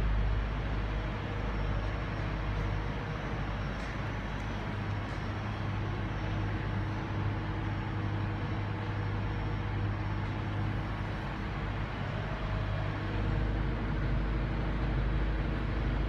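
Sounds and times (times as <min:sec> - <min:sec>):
railway station low hum and rumble: 0:00.0 - 0:16.0.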